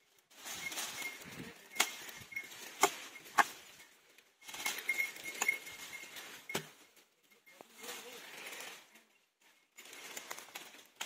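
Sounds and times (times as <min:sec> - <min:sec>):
uneven rustling: 0:00.0 - 0:11.0.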